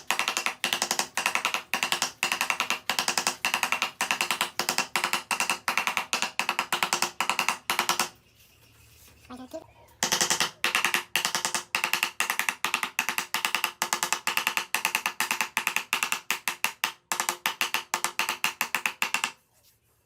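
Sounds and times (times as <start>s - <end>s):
hammer striking wood: 0.0s - 8.2s, 10.0s - 19.4s.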